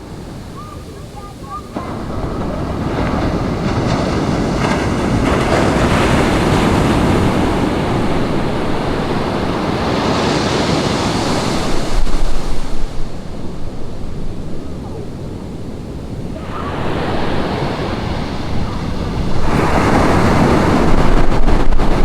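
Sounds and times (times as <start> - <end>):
ocean surf washing up beach: 0.0 - 22.0
wind buffeting microphone: 0.0 - 22.0.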